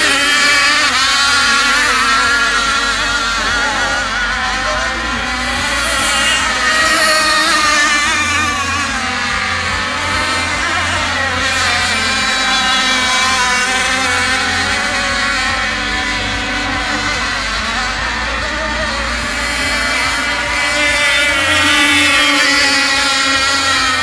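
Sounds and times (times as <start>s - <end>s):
model boat engines whining: 0.0s - 24.0s.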